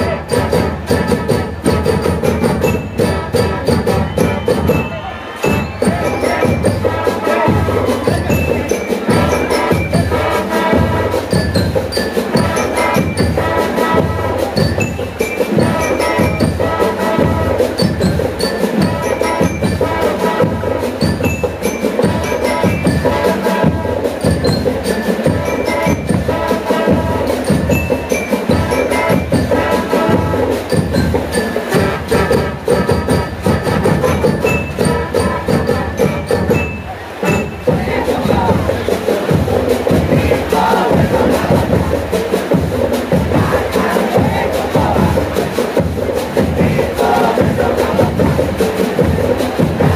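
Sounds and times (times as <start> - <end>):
marching band brass: 0.0 - 49.9
marching drums: 0.0 - 49.9.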